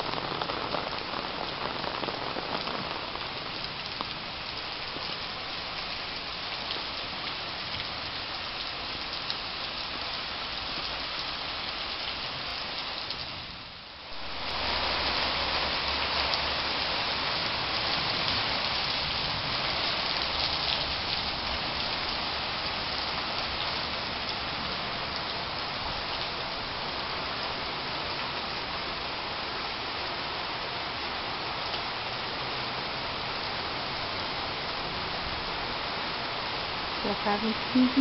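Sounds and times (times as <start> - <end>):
rain falling on foliage: 0.0 - 38.0.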